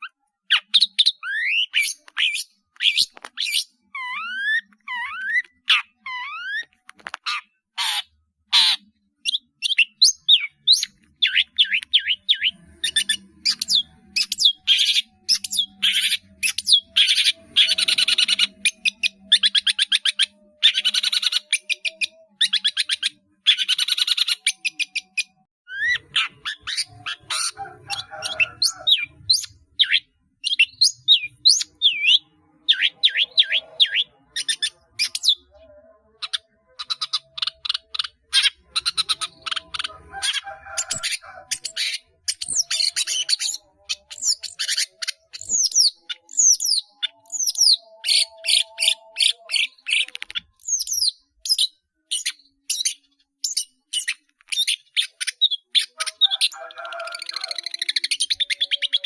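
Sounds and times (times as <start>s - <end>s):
shrike singing chirps and whistles: 0.0s - 6.8s, 8.6s - 35.6s, 36.4s - 59.0s.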